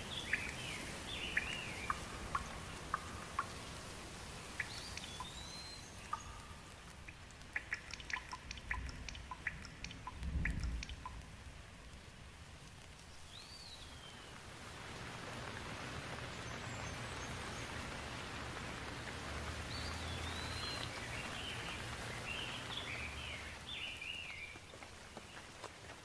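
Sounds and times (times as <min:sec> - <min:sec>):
birds chirping: 0:00.0 - 0:11.3, 0:13.0 - 0:25.7
steady rain falling: 0:00.0 - 0:26.0.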